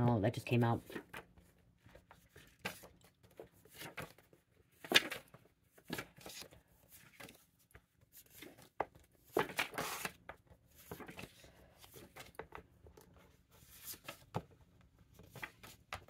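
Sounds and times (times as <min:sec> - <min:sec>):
cards rustling and tapping: 0:00.6 - 0:16.0.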